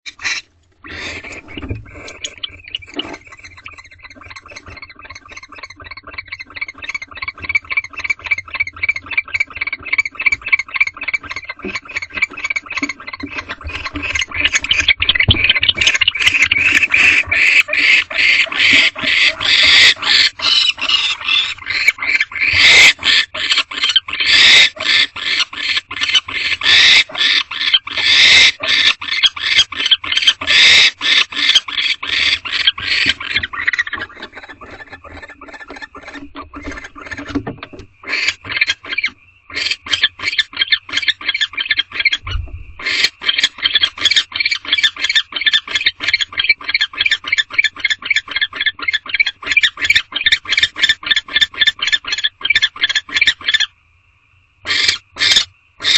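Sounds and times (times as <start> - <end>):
barn owls raspy calling: 0.1 - 53.8, 54.6 - 55.9.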